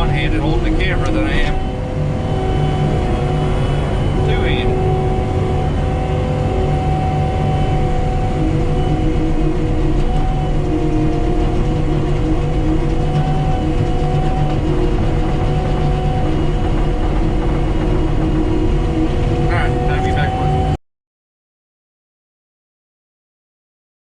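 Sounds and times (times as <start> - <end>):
engine running at high throttle: 0.0 - 20.8
stump grinder whine: 0.0 - 20.8.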